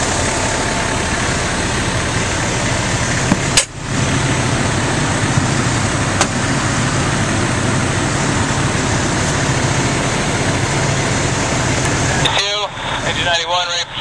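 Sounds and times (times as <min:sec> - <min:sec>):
fire engine idling: 0:00.0 - 0:14.0.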